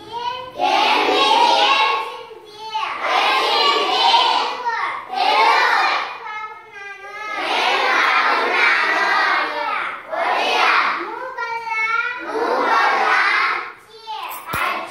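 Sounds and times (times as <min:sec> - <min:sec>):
children chanting in unison: 0:00.3 - 0:11.1, 0:12.2 - 0:14.9.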